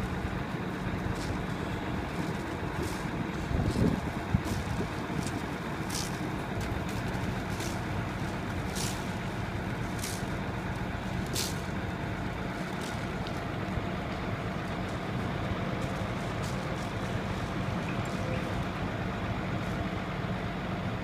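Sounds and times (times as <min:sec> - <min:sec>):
truck engine humming: 0:00.0 - 0:21.0.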